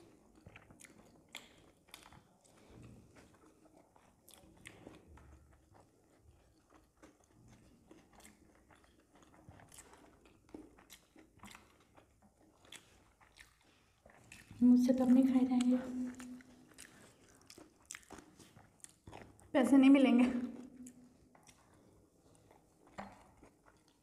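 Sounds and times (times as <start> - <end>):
faint chewing and biting: 0.0 - 19.6, 20.2 - 24.0.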